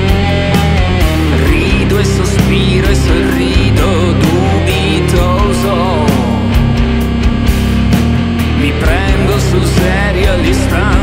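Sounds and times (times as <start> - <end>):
rock music with drums and guitar: 0.0 - 11.0.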